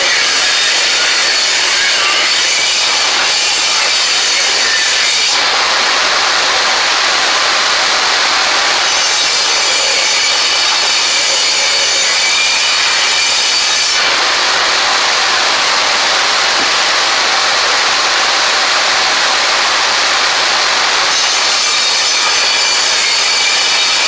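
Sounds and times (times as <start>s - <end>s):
power saw cutting board: 0.0s - 24.0s.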